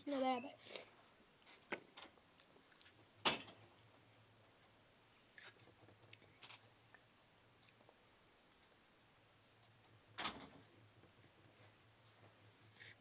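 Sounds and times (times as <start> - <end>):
faint clicks and rustles: 0.0 - 8.8, 9.5 - 13.0.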